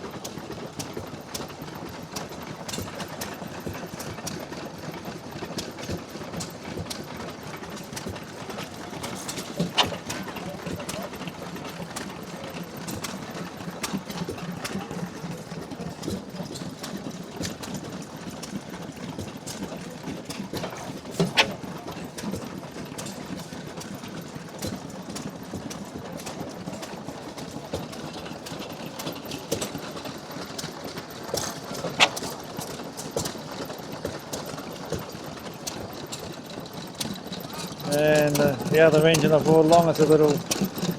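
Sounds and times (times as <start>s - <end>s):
engine clicks and knocks: 0.0s - 40.9s
oil engine humming: 2.0s - 40.9s.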